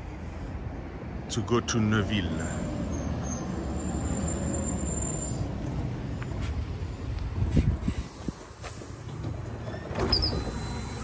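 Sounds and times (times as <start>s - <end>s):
bus engine rumbling low: 0.0s - 11.0s.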